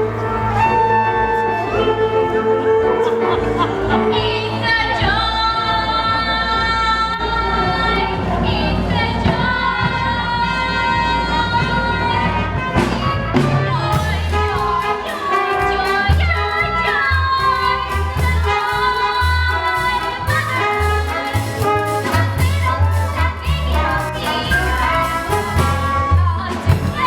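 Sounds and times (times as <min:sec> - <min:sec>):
voices singing: 0:00.0 - 0:12.5, 0:13.4 - 0:27.0
band accompaniment: 0:00.0 - 0:27.0.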